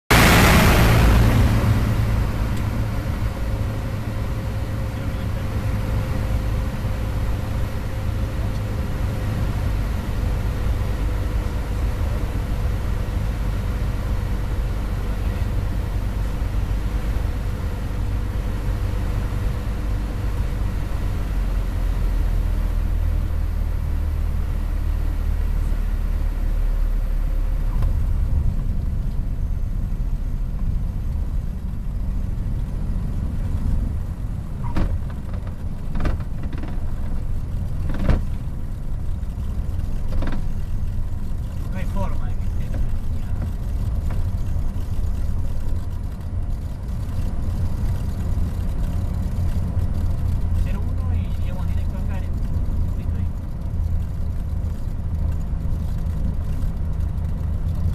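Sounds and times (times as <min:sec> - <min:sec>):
propeller aircraft engine droning: 0:00.1 - 0:57.9.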